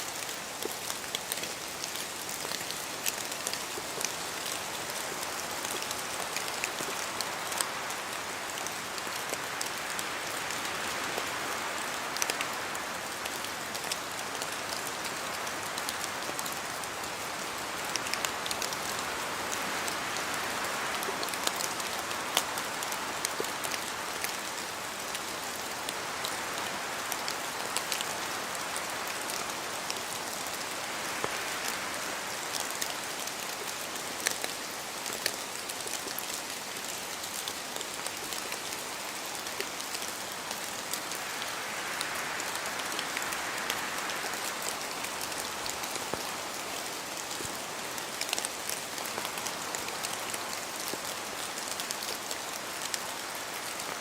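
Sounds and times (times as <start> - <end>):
hiss of rainfall: 0.0 - 54.0
wind gusts through trees: 0.0 - 54.0.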